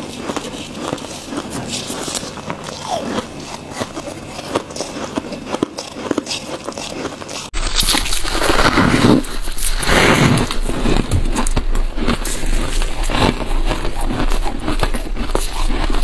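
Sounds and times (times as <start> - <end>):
chewing crunchy ice: 0.0 - 16.0.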